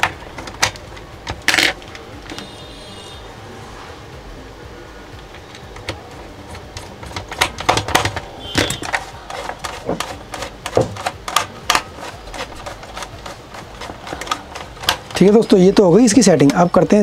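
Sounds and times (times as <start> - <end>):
plastic and metal parts clicking: 0.0 - 2.5, 5.2 - 16.7.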